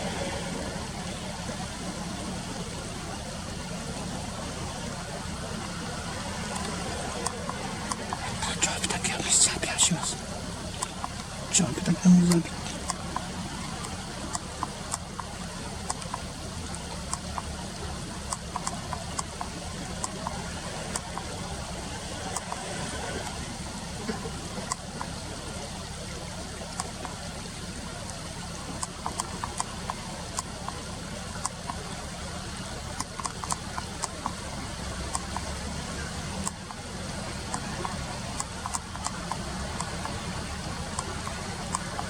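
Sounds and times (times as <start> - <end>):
river water splashing: 0.0 - 42.0.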